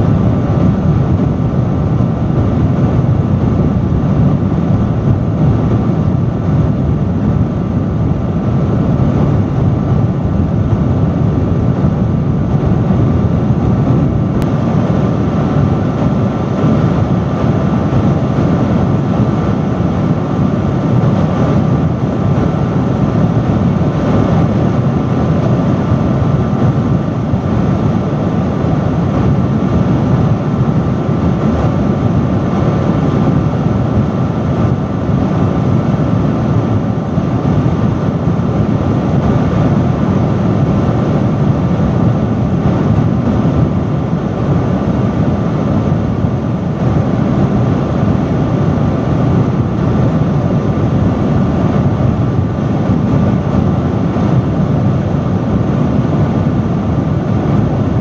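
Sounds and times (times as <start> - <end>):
faint steady whine: 0.0 - 58.0
industrial fan rushing air: 0.0 - 58.0.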